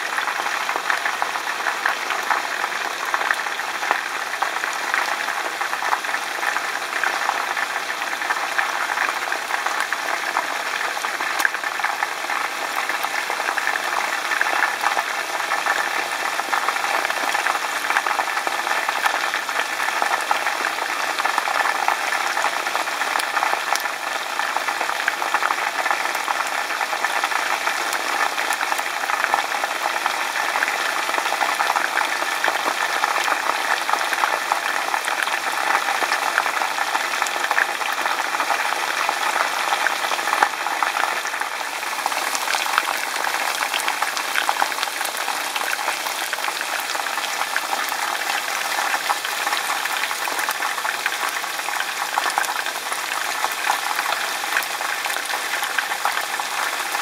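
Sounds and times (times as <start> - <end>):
chicken frying in oil: 0.0 - 57.0.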